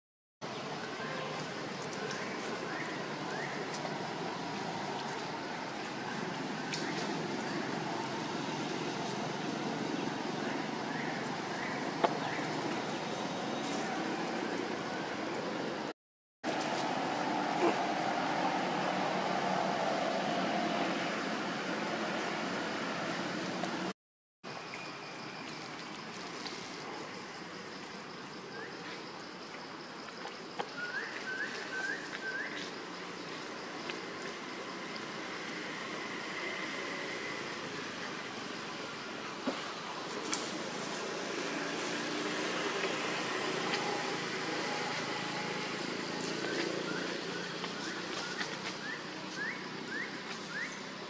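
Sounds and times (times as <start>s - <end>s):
outdoor background noise: 0.4s - 51.0s.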